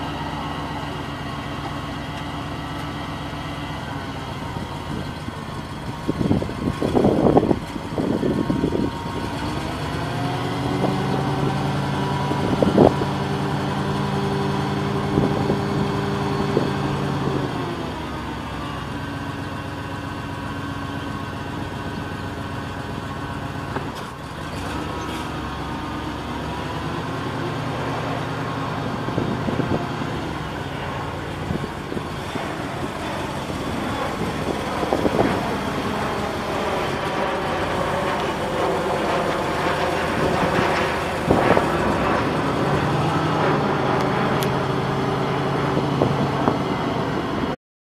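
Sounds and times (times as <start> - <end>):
forklift engine running: 0.0 - 47.6.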